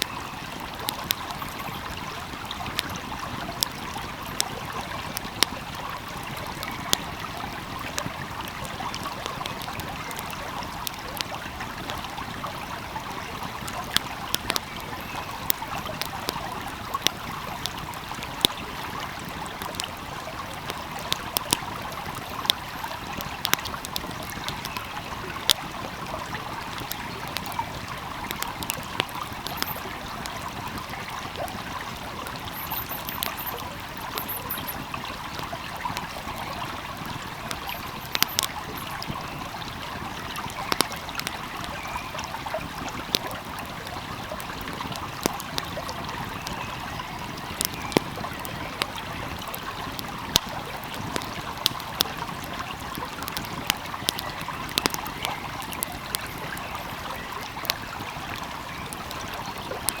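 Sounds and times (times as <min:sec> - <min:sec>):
stream flowing: 0:00.0 - 1:00.0
wood fire crackling: 0:00.0 - 1:00.0.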